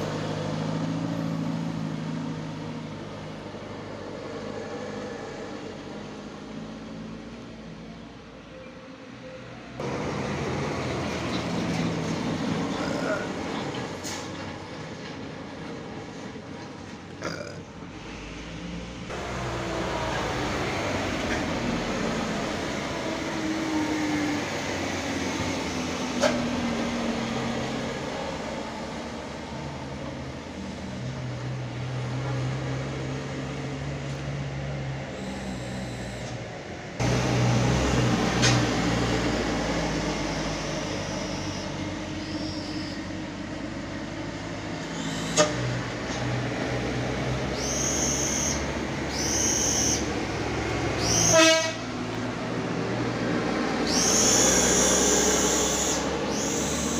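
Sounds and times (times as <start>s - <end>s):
diesel truck engines running: 0.0s - 8.3s, 9.7s - 56.9s.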